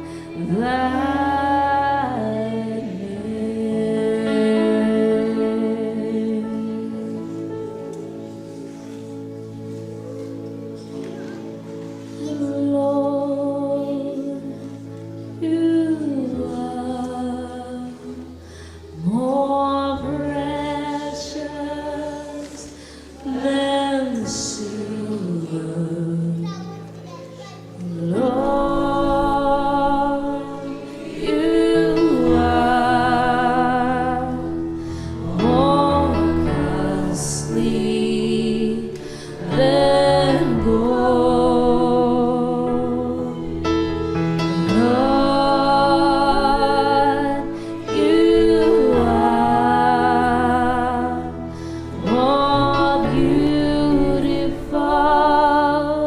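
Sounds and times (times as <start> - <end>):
woman singing with vibrato: 0.0 - 7.2, 12.2 - 14.6, 15.4 - 26.4, 27.8 - 43.6, 44.5 - 56.0.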